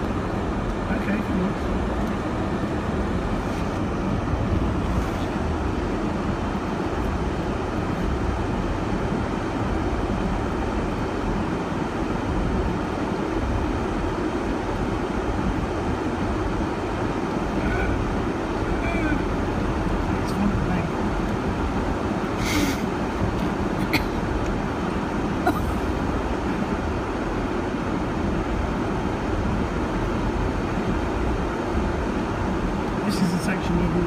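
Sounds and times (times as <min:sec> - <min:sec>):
engine and road rumble: 0:00.0 - 0:34.0.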